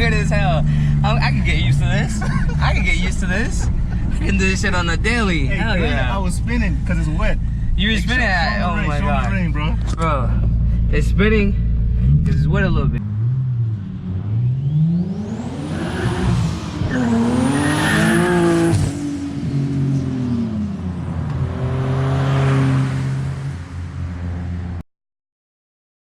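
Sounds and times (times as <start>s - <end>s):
car engine accelerating hard: 0.0s - 24.8s.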